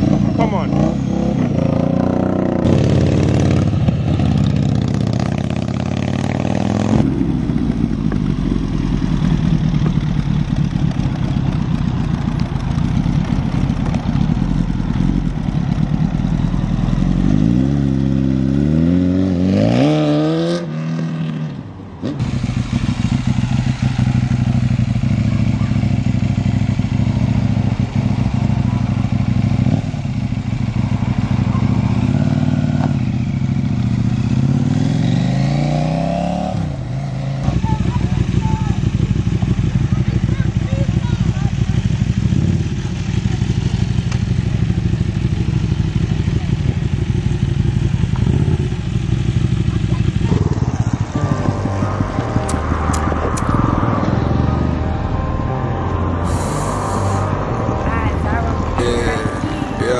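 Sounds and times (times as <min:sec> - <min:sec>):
motorcycle engines passing: 0:00.0 - 0:59.9.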